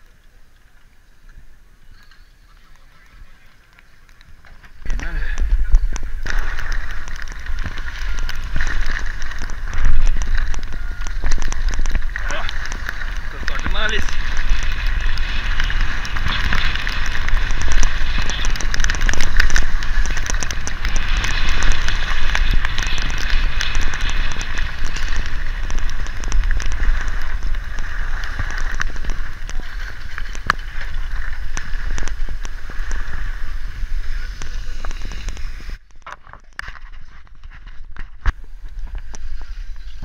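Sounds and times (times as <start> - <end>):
skis scraping on snow: 1.4 - 35.8, 36.9 - 40.0.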